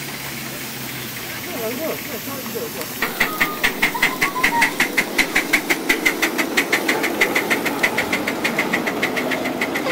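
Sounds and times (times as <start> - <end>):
miniature steam locomotive chuffing: 0.0 - 9.9.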